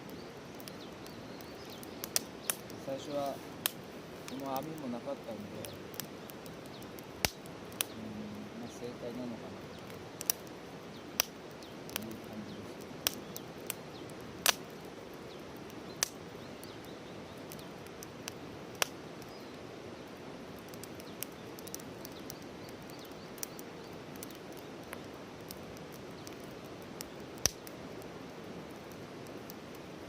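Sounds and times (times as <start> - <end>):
campfire crackling and popping: 0.0 - 30.0
fire low rushing: 0.0 - 30.0.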